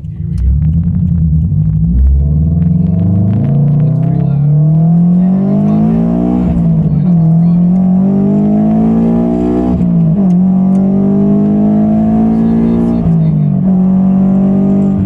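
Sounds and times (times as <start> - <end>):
loud car engine accelerating: 0.0 - 15.0.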